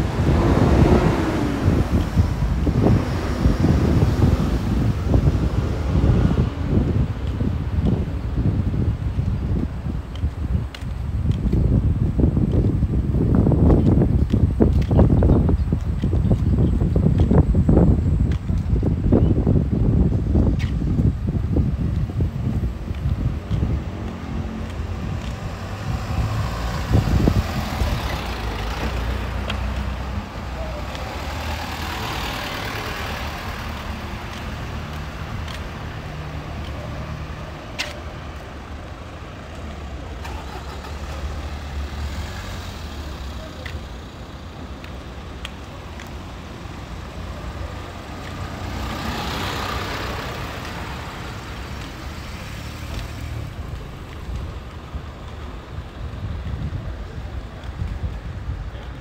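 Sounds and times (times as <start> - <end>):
cars driving past: 0.0 - 10.9, 20.3 - 59.0.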